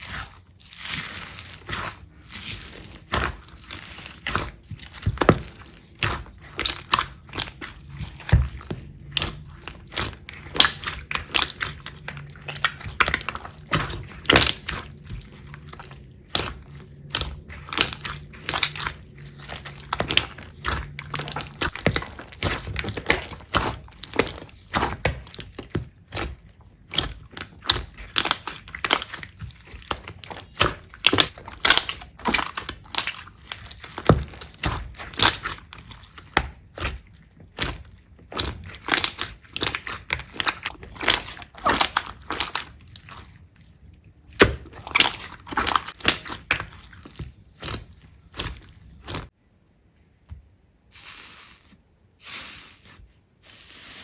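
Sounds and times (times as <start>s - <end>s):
slime squeezed crackling: 0.0s - 49.3s.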